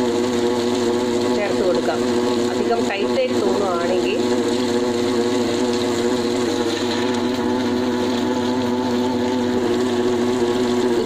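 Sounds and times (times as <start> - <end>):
wet grinder humming: 0.0 - 11.0.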